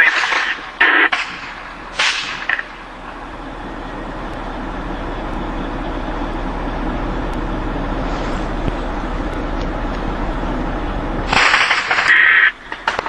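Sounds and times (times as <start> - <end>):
low hum: 0.0 - 13.0
steady rushing noise: 0.0 - 13.0.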